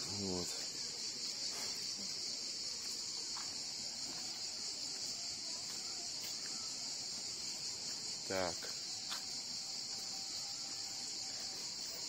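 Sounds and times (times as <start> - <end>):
cicadas chirring: 0.0 - 12.0.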